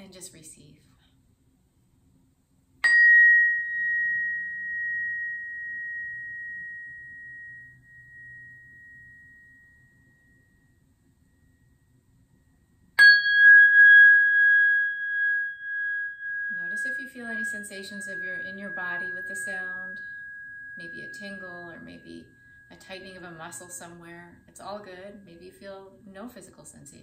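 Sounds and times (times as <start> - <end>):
lower tuning fork tone: 2.8 - 26.2
high tuning fork tone: 2.8 - 27.0.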